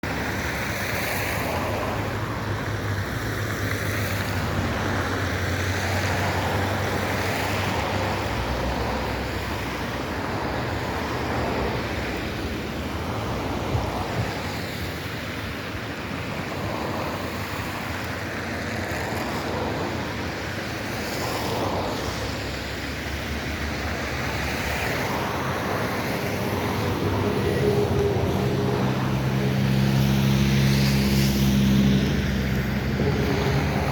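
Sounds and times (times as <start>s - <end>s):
river water rushing: 0.0s - 33.9s
wind buffeting microphone: 0.0s - 33.9s.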